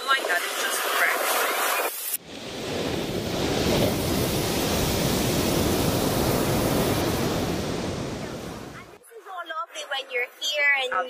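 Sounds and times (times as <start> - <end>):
sea surf washing ashore: 0.0 - 9.0.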